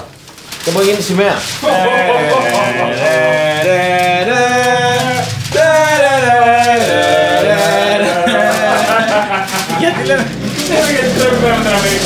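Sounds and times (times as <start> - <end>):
man singing unaccompanied: 1.6 - 12.0.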